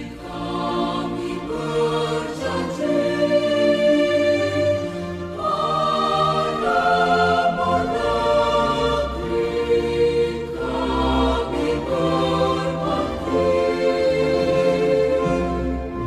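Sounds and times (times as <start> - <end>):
choir singing slow chords: 0.0 - 16.0.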